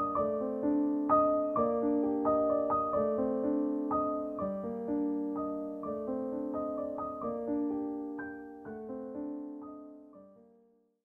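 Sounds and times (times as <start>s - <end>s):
slow gentle piano melody: 0.0s - 11.0s.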